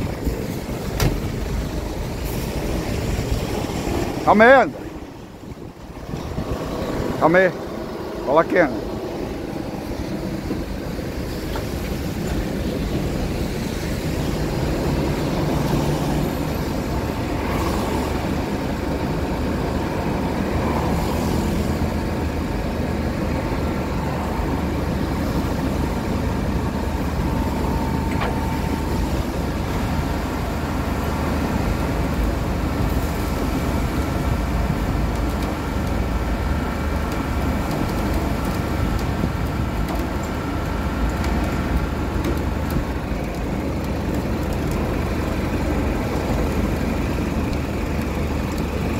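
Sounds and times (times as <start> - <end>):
continuous even noise: 0.0 - 48.9
truck engine running: 0.0 - 48.9.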